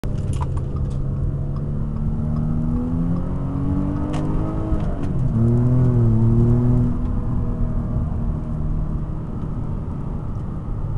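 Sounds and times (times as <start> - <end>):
car exhaust accelerating: 0.1 - 10.9.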